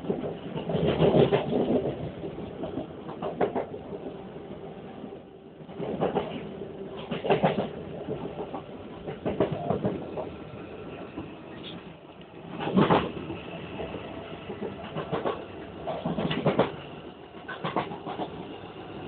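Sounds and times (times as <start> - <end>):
train running rumble: 0.0 - 19.0.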